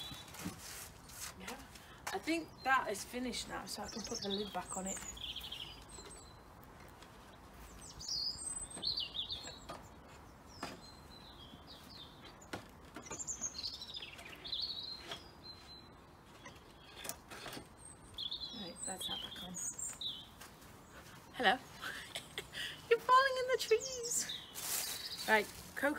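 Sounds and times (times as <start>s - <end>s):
small birds chirping: 0.0s - 25.9s.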